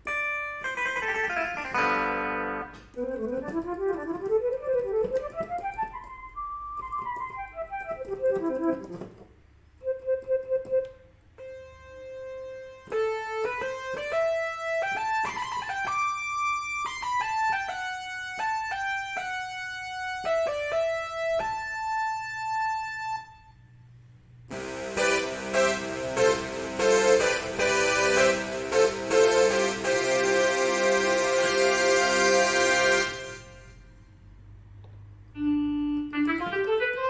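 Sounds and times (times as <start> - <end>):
keyboard single-note melody: 0.0 - 9.2, 9.8 - 23.6, 24.5 - 33.9, 35.4 - 37.0
keyboard chords: 0.0 - 23.7, 24.5 - 37.0.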